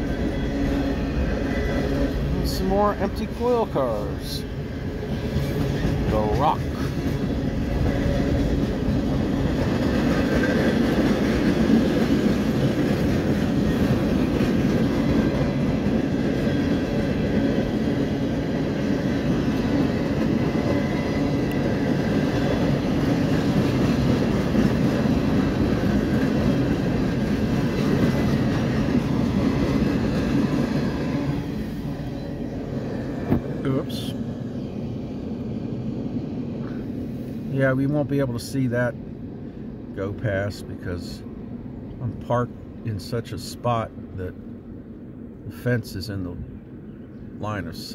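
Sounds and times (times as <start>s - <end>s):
freight train wheels rumbling and clattering: 0.0s - 45.7s.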